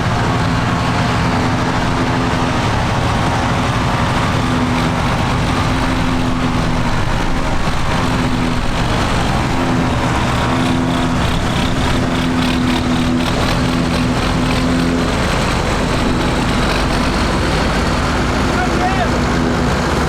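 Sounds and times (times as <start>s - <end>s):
farm machinery engine drone: 0.0s - 20.0s.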